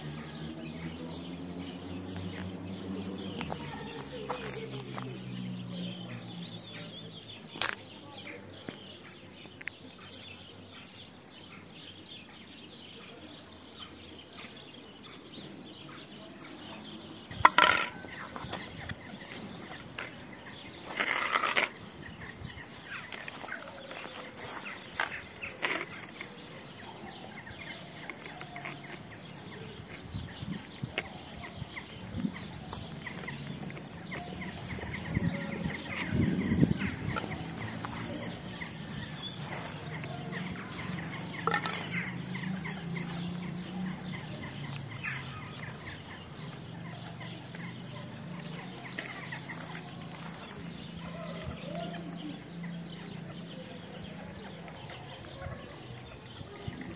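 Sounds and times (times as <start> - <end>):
birds calling: 0.0 - 56.9.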